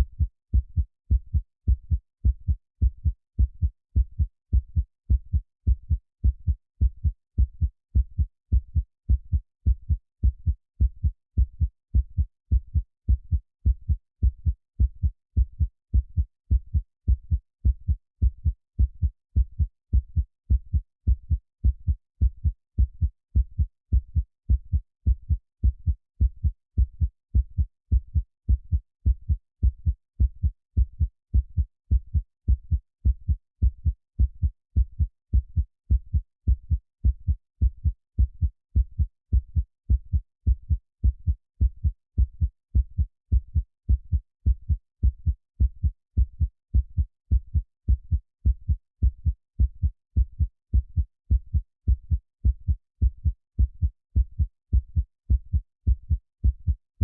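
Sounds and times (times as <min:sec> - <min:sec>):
muffled heartbeat: 0:00.0 - 0:56.8.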